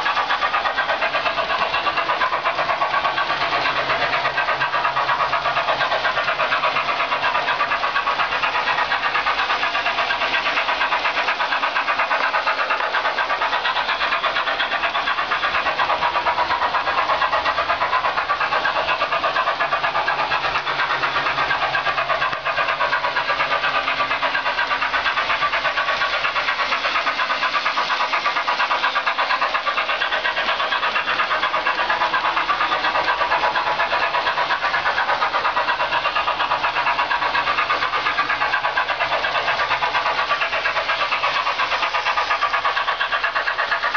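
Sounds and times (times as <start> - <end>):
steam engine chuffing from speaker: 0.0 - 43.9.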